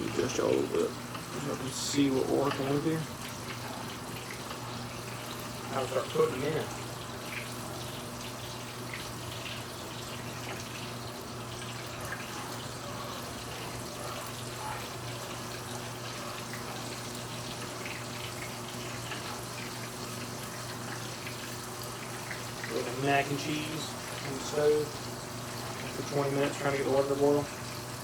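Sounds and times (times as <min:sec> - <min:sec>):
food sizzling in frying oil: 0:00.0 - 0:28.0.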